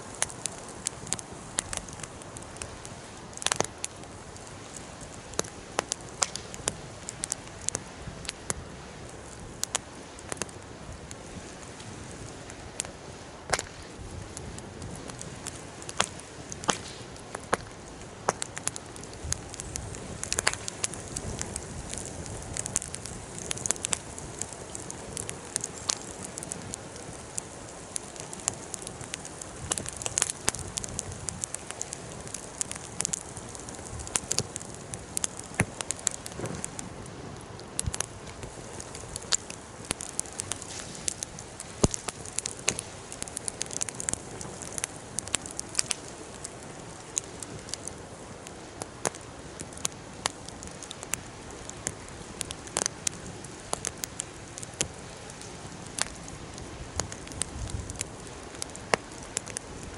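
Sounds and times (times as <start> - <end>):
faint steady hiss: 0.0 - 59.9
wood fire crackling and popping: 0.0 - 59.9.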